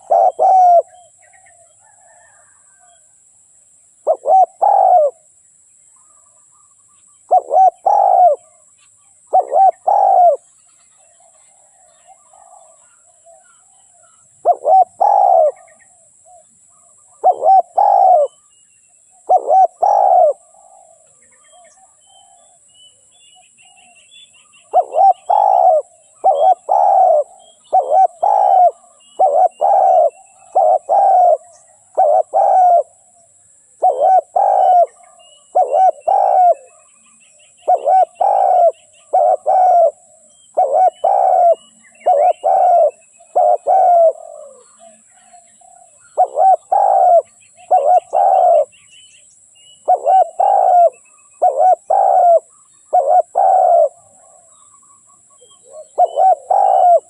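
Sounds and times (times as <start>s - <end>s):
small birds chirping: 0.0s - 2.9s, 3.8s - 57.0s
dove cooing: 0.0s - 3.0s, 4.0s - 5.3s, 7.3s - 8.6s, 9.2s - 10.5s, 11.1s - 18.4s, 19.2s - 22.6s, 23.8s - 48.8s, 49.8s - 54.7s, 55.3s - 57.0s.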